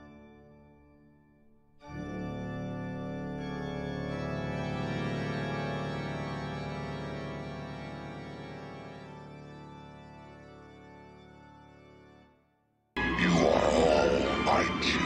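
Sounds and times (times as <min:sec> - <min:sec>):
held organ-like chords: 0:01.8 - 0:12.4, 0:13.0 - 0:15.0.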